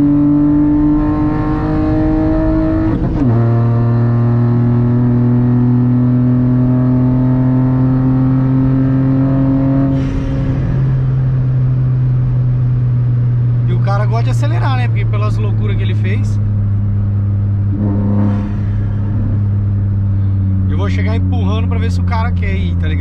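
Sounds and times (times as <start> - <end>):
gear shift rush of noise: 0.0 - 23.0
turbocharged car engine accelerating: 0.0 - 23.0.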